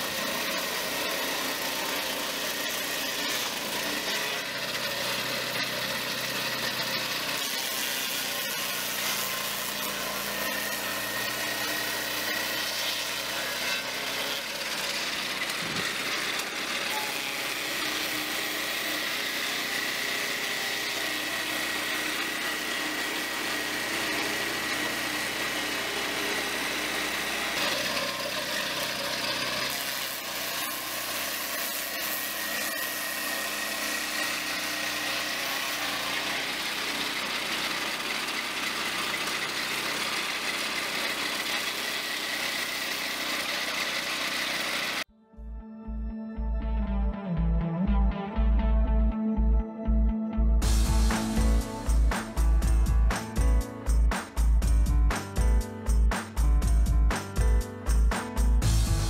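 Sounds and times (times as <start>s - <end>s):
saw blade whining: 0.0s - 45.1s, 50.6s - 56.5s
small petrol engine running: 0.0s - 45.1s, 50.6s - 59.0s.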